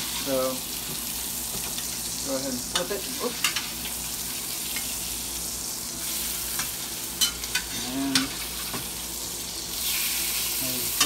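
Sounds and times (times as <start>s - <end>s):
fish sizzling in butter: 0.0s - 11.0s.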